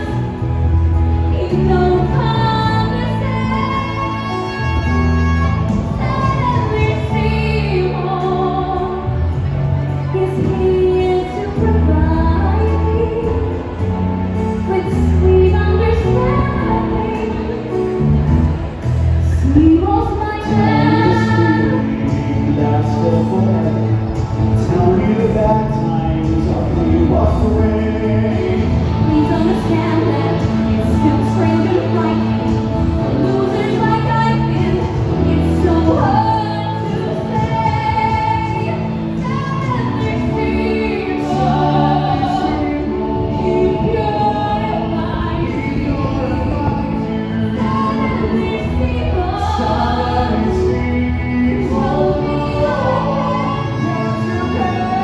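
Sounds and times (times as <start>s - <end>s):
woman singing into microphone: 0.0s - 23.6s, 24.6s - 55.0s
music accompaniment through pa: 0.0s - 55.0s
recorded backing track: 0.0s - 55.0s.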